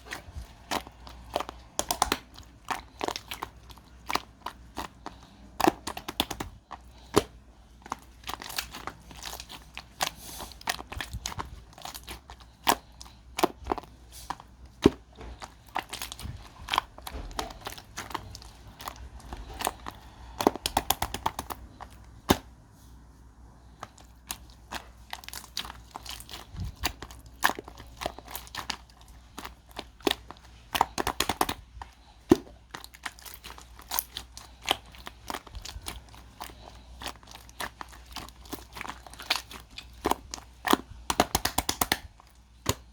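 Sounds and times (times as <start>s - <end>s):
hands crinkling crunchy material: 0.0s - 42.9s.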